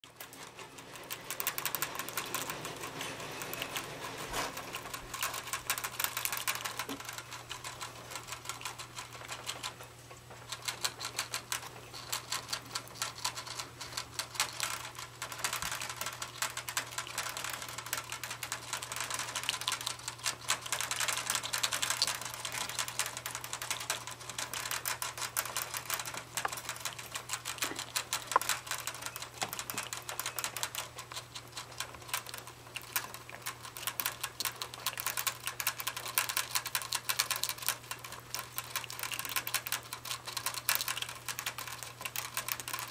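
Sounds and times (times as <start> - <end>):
rats licking water bottle tube: 0.0 - 42.9.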